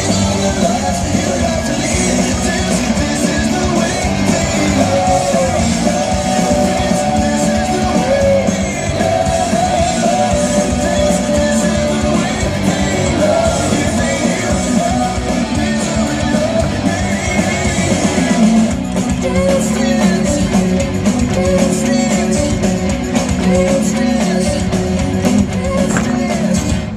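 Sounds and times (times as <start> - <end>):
person singing: 0.0 - 26.9
rock music with electric guitar: 0.0 - 26.9.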